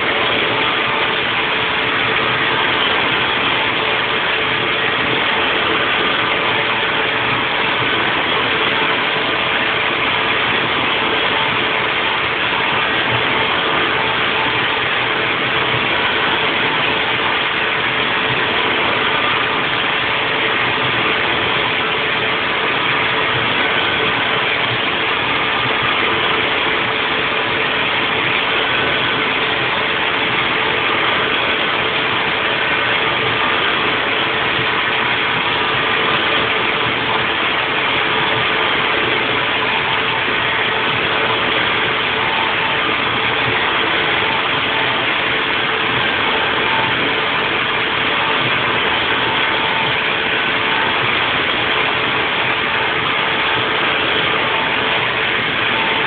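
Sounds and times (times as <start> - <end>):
constant hum tone: 0.0 - 56.0
milling machine running: 0.0 - 56.0.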